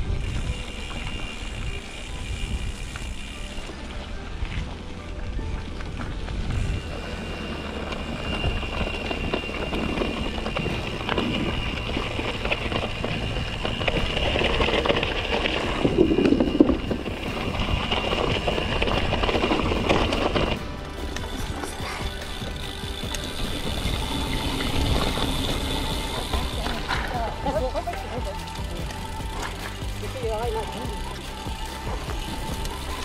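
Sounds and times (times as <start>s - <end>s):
wind rumbling on microphone: 0.0s - 30.0s
bike rattling and knocking: 0.0s - 33.0s
bike tyres rolling on trail: 0.0s - 33.0s
thin high whine: 5.6s - 33.0s.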